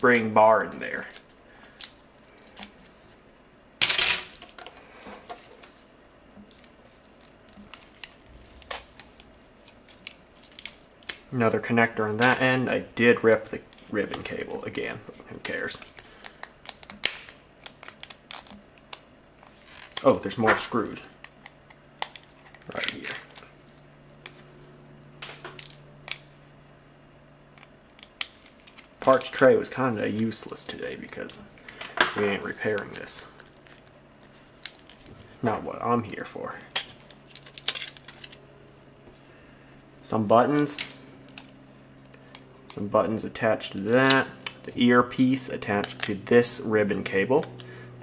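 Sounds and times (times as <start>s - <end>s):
low hum: 4.7s - 16.2s, 20.2s - 48.0s.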